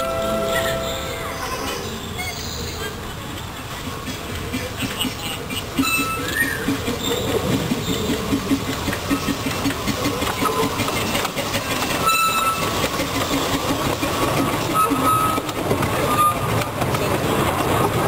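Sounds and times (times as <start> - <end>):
train wheels rattling over track: 0.0 - 18.0.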